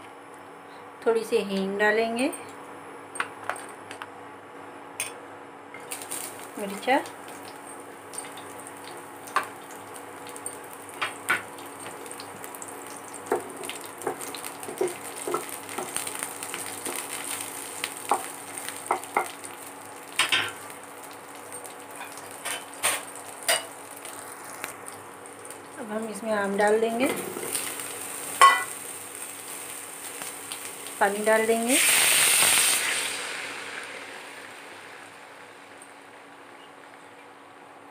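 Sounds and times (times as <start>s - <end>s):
spices sizzling in hot oil: 5.8s - 37.1s.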